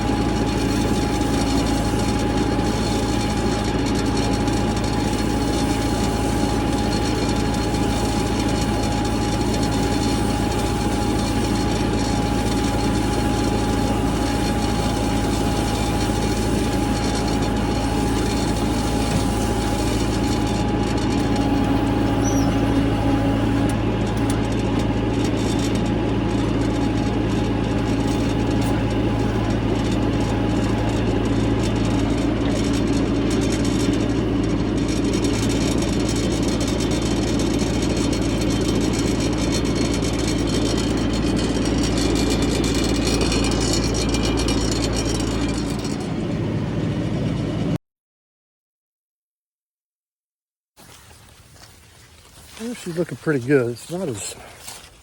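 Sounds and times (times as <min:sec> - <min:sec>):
constant high whine: 0:00.0 - 0:47.8, 0:50.9 - 0:55.0
vehicle engine running: 0:00.0 - 0:47.8, 0:51.6 - 0:55.0.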